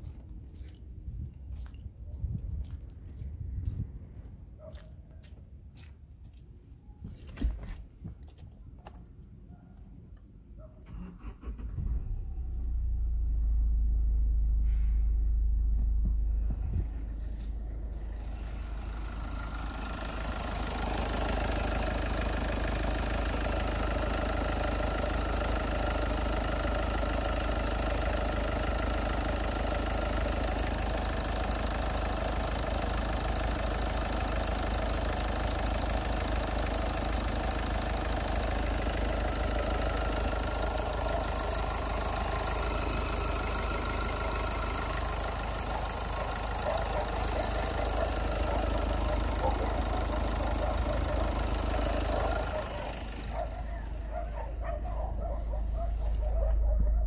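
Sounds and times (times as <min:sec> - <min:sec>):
diesel engine idling: 0:10.9 - 0:57.0.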